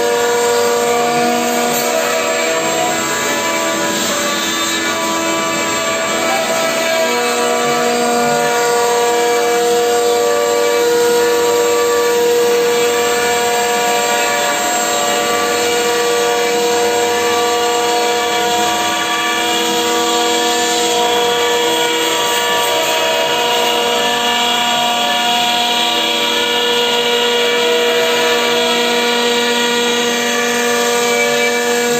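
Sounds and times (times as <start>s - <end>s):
router spindle whine: 0.0s - 31.9s.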